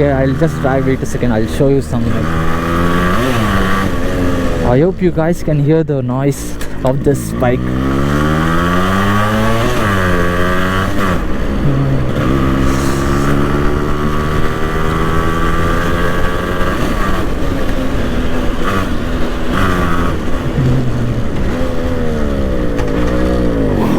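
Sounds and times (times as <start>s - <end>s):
two-stroke motorcycle engine: 0.0s - 5.5s, 6.3s - 23.9s.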